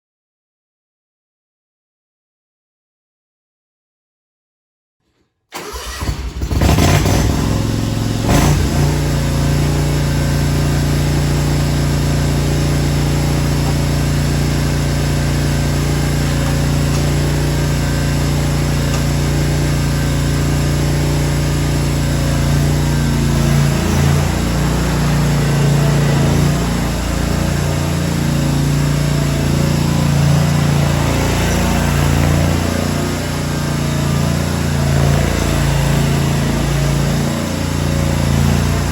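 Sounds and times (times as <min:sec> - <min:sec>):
mower engine starting and running: 0:05.5 - 0:38.9.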